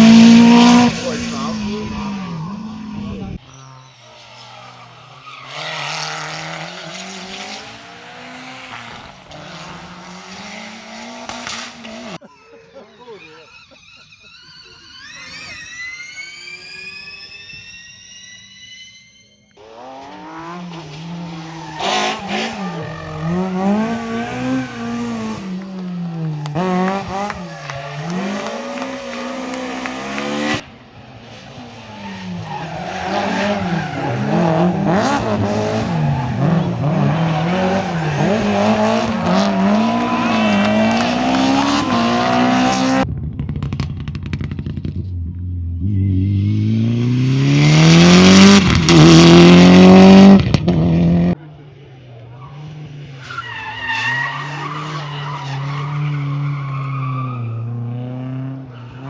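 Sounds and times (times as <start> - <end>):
rally car engines revving: 0.0 - 12.3, 19.6 - 59.0.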